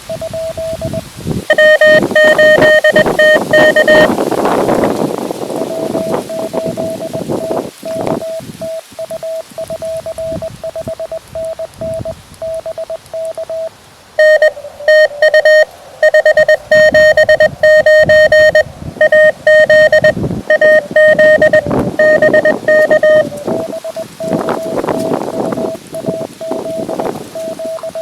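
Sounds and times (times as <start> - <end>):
faint morse code tones: 0.0 - 28.0
loud harsh morse signal: 0.0 - 28.0.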